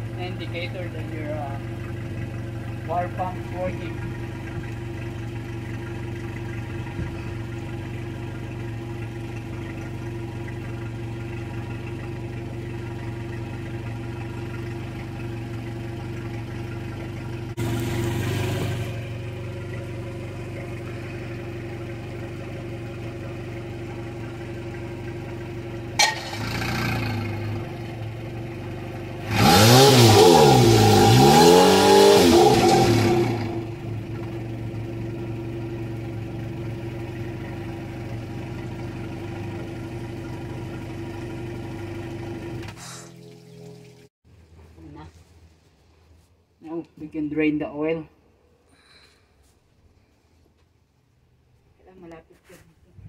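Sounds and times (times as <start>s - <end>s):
outboard engine idling and revving: 0.0s - 44.1s.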